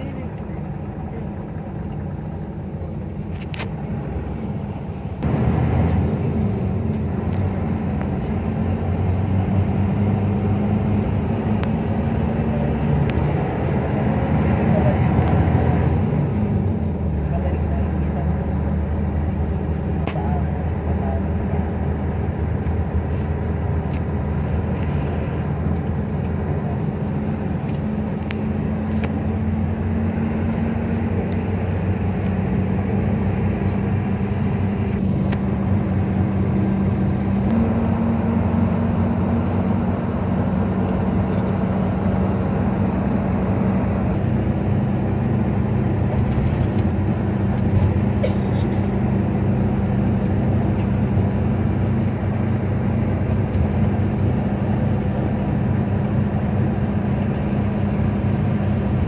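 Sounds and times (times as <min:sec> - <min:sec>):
bus engine drone: 0:00.0 - 0:59.0
tyres on road: 0:00.0 - 0:59.0.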